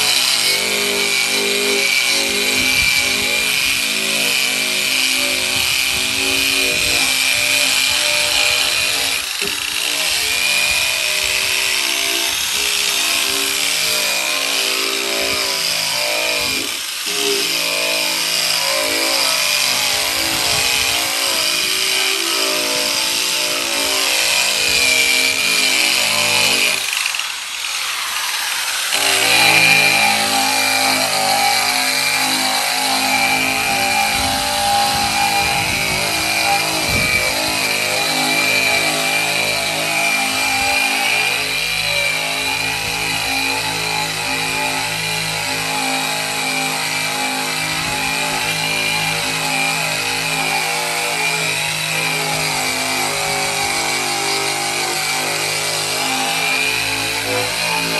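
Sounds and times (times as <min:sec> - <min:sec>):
electric sander grinding steel: 0:00.0 - 0:57.9.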